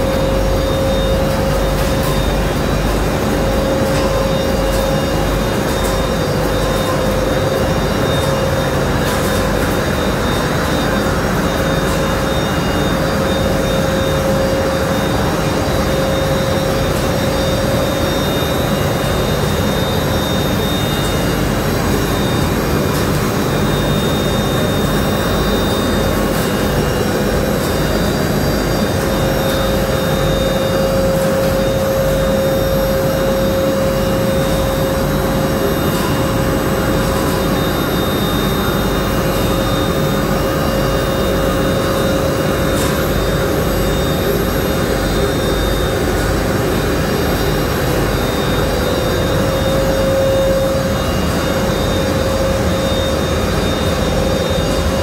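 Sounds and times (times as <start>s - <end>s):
constant machine whine: 0.0s - 55.0s
mill machinery droning: 0.0s - 55.0s.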